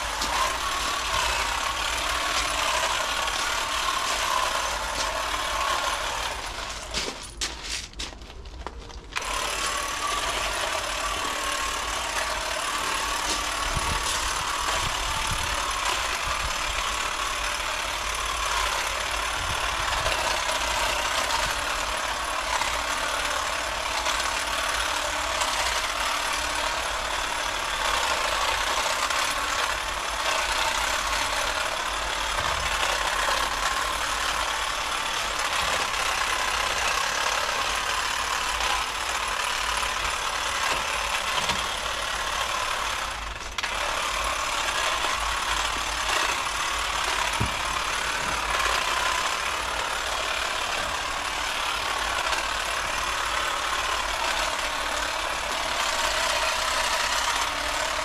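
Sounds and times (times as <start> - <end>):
hedge trimmer cutting: 0.0 - 58.0.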